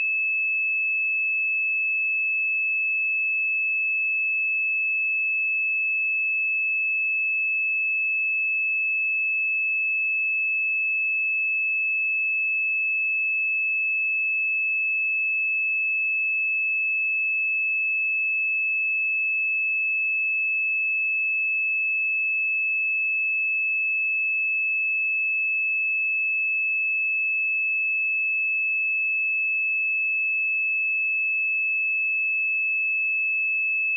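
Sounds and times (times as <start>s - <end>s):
sine wave test tone: 0.0s - 33.9s.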